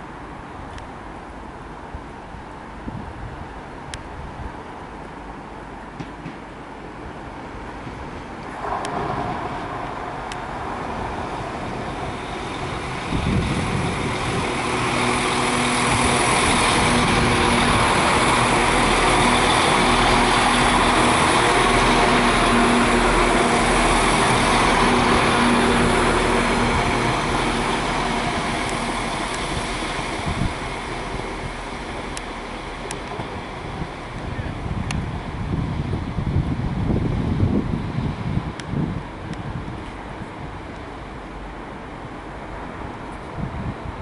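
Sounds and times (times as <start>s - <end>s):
train engine drone: 0.0s - 44.0s
wheel-on-rail noise: 7.8s - 44.0s.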